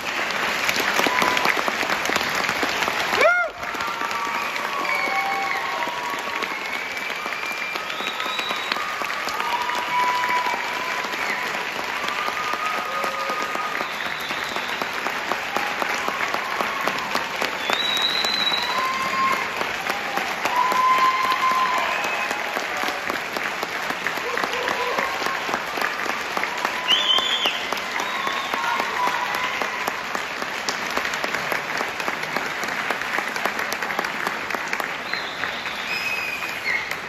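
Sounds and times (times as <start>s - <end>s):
audience applauding: 0.0s - 37.0s
crowd cheering: 0.0s - 37.0s.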